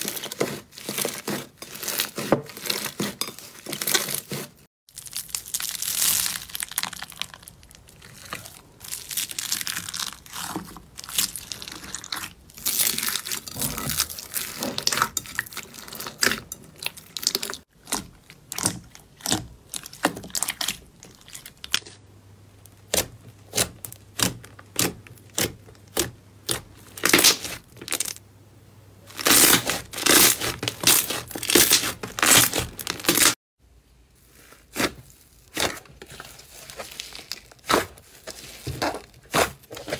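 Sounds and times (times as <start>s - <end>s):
slime crackling and tearing: 0.0s - 22.0s, 22.7s - 28.2s, 29.1s - 33.4s, 34.2s - 39.9s.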